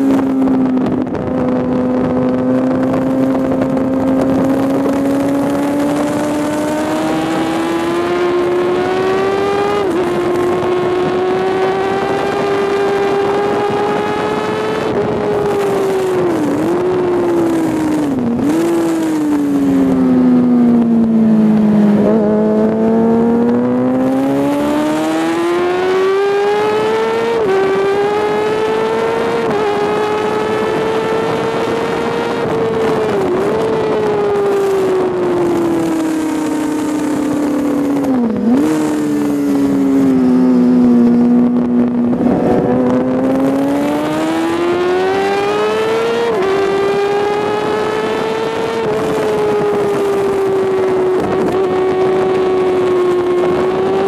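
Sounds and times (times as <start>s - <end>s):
sport bike engine revving: 0.0s - 54.0s
wind rush: 0.0s - 54.0s.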